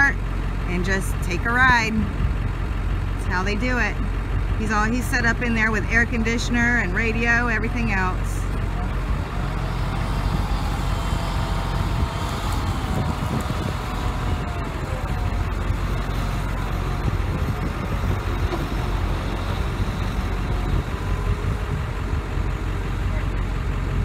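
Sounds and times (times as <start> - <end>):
engine rumble inside vehicle: 0.0 - 24.0.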